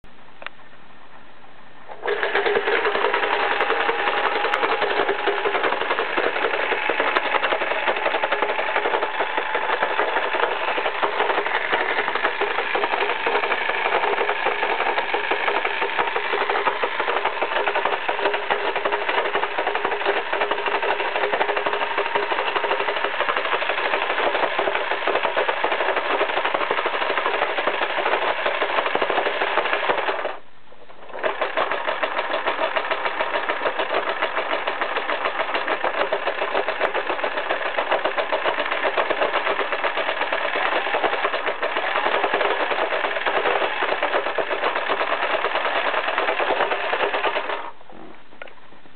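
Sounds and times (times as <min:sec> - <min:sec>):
electric sewing machine running: 0:01.9 - 0:30.4, 0:31.1 - 0:47.8.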